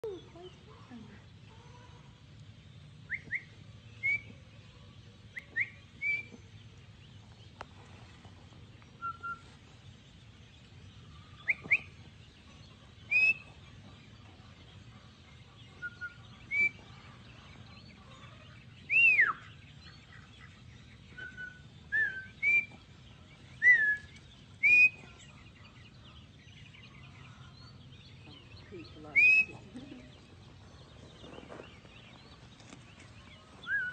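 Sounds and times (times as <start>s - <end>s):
ducklings peeping: 3.0s - 33.9s.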